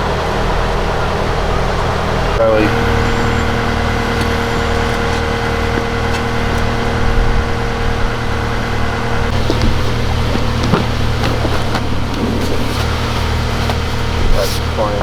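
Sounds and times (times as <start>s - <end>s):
engine running: 0.0s - 15.0s
steady hum: 0.0s - 15.0s.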